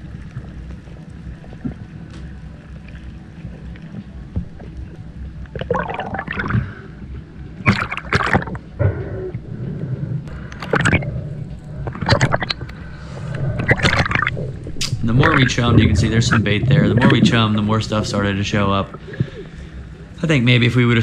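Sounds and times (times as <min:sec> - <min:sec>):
steady low rumble: 0:00.0 - 0:21.0
water sloshing and gurgling: 0:00.0 - 0:21.0.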